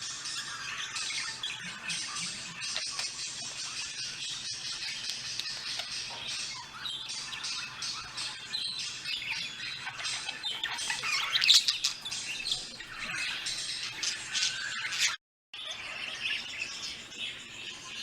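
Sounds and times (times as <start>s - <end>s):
birds chirping and squawking: 0.0s - 18.0s.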